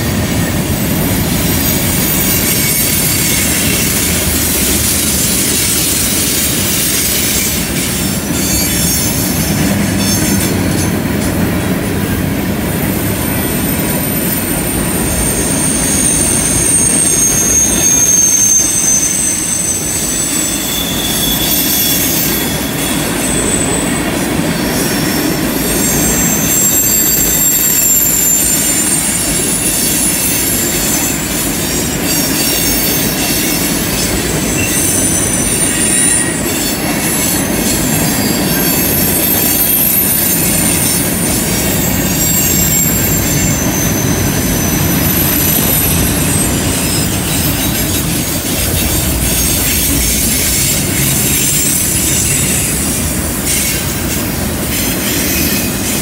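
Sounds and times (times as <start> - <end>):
wheel flange squeals: 0.0 - 11.4, 12.6 - 56.0
train wheels rumbling on rail: 0.0 - 56.0.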